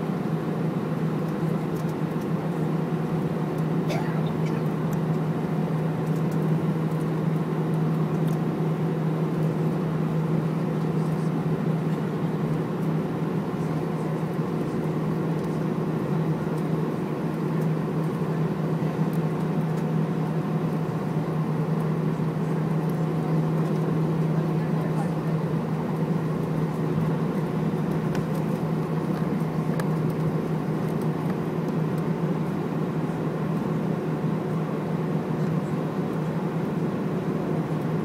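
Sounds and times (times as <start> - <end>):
airliner cabin low hum: 0.0 - 38.0.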